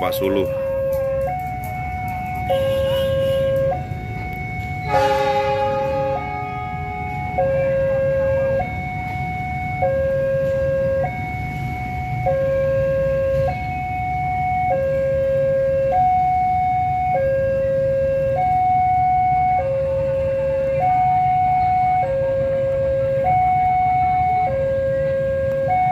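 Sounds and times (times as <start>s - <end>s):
two-tone crossing alarm: 0.0s - 25.9s.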